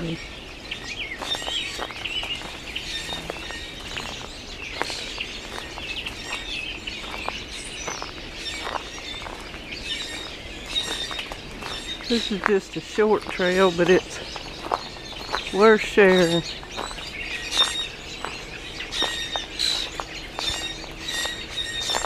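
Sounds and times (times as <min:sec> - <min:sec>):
small birds chirping: 0:00.0 - 0:22.0
footsteps on crushed shells: 0:01.1 - 0:22.0.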